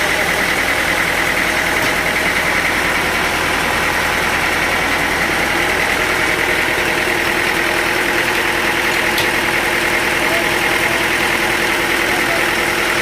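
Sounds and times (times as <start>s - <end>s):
high even whine: 0.0s - 13.0s
sawmill machinery drone: 0.0s - 13.0s.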